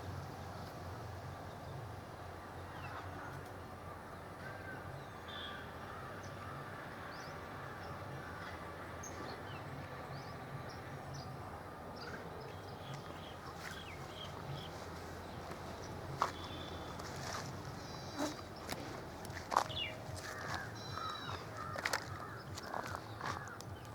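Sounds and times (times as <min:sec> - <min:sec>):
birds chirping: 0:02.6 - 0:23.9.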